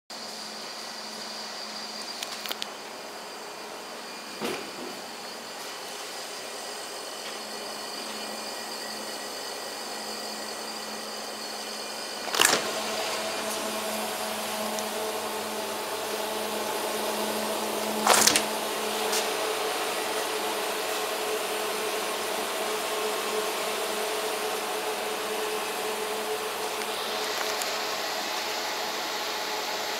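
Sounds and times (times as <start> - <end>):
refrigerator compressor hum: 0.4 - 29.9.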